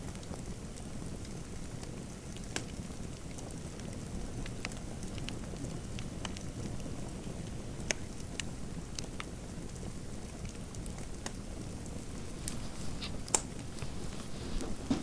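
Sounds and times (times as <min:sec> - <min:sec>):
fire crackling with sharp pops: 0:00.1 - 0:15.0.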